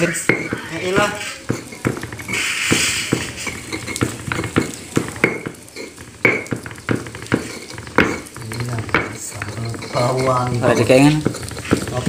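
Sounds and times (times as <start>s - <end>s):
stone pestle grinding on mortar: 0.0s - 12.0s.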